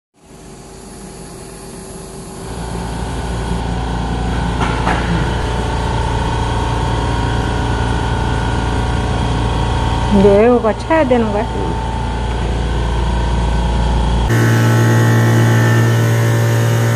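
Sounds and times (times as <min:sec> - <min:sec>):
machinery humming: 0:00.2 - 0:16.9.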